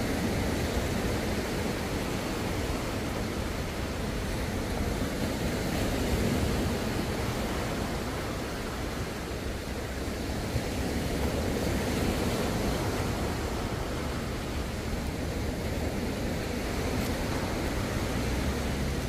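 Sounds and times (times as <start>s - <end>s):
small waves washing on beach: 0.0s - 19.0s.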